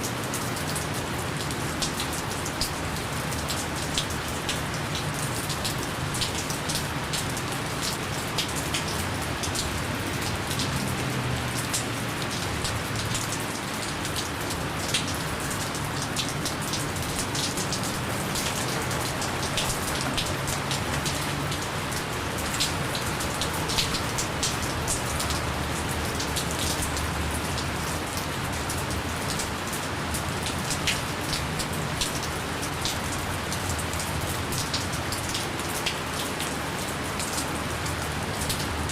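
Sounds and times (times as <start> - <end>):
light rain pattering: 0.0 - 38.9.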